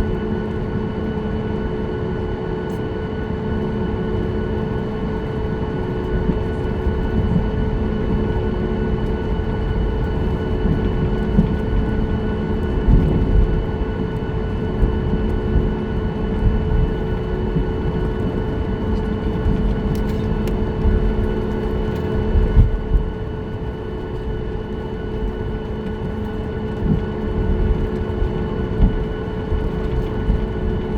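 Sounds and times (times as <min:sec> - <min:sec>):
airplane cabin rumble: 0:00.0 - 0:30.9
engine hum: 0:03.5 - 0:30.9.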